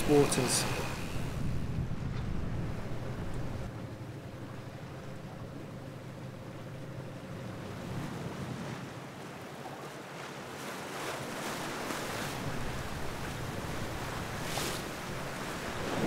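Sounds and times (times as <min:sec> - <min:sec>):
wind buffeting microphone: 0:00.0 - 0:09.5, 0:10.9 - 0:16.0
boat engine droning: 0:00.0 - 0:16.0
sea water washing past hull: 0:00.0 - 0:16.0.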